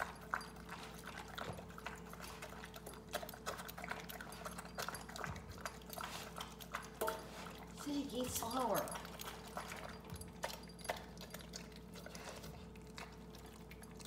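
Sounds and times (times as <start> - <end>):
dog chewing and lapping: 0.0 - 14.0.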